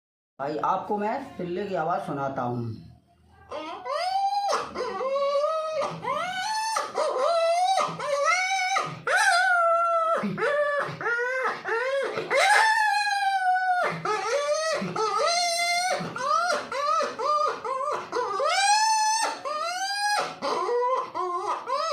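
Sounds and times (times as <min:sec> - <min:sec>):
puppy whining and yelping: 0:03.5 - 0:21.9.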